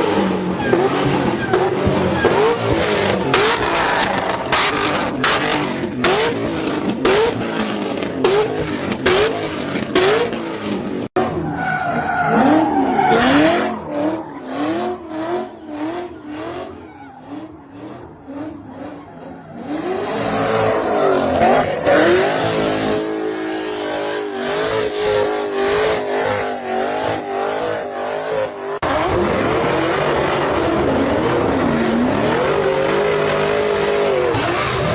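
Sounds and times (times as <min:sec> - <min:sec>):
tyres squealing and skidding: 0:00.0 - 0:07.4, 0:08.8 - 0:34.9
car engines revving: 0:00.0 - 0:34.9.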